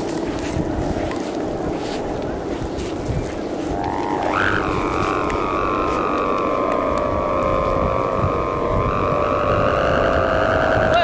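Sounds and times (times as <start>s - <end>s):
kite hummer droning: 0.0s - 11.0s
wind rumble on microphone: 0.0s - 11.0s.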